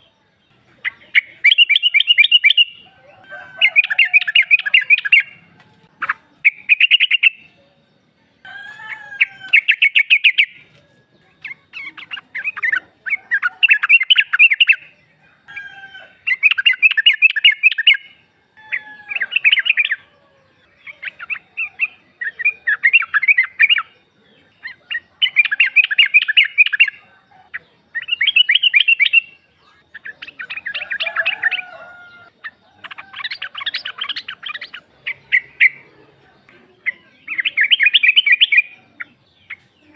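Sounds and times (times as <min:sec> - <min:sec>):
bulbul chattering call: 0:00.0 - 0:07.8, 0:08.4 - 0:39.9.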